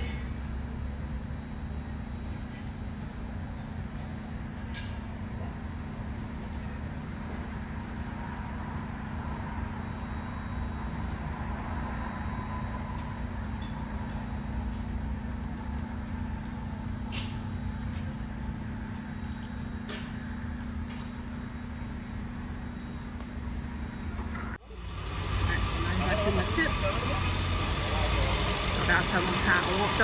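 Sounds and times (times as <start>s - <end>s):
workshop machinery humming: 0.0s - 30.0s.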